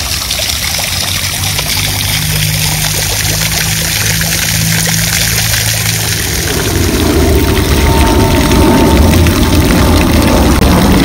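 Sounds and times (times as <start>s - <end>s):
fountain water splashing: 0.0s - 11.0s
low steady hum: 0.0s - 11.0s.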